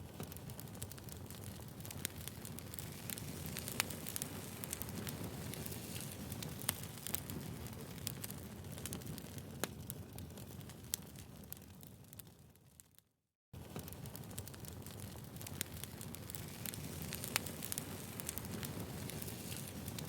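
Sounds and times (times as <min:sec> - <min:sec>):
wood fire crackling: 0:00.0 - 0:13.0, 0:13.6 - 0:20.0.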